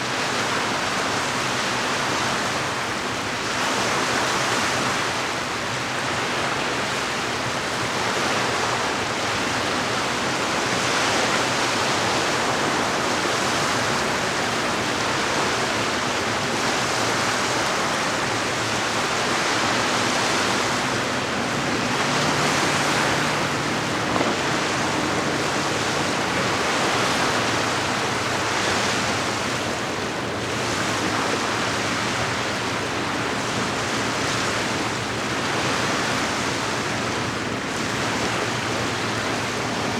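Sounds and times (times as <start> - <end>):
water washing against shore: 7.0 - 39.9.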